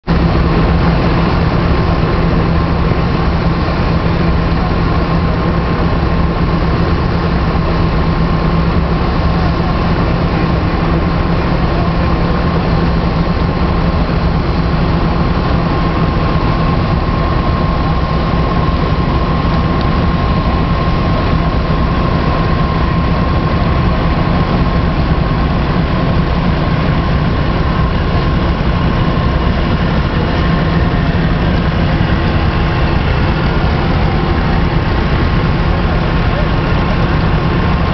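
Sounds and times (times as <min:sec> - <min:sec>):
threshing drum humming: 0:00.0 - 0:37.9
tractor engines droning: 0:00.0 - 0:37.9.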